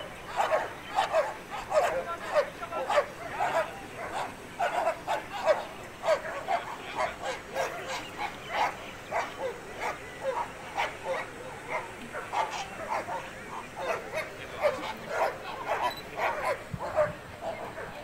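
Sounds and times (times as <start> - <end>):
dog barking: 0.3 - 18.0.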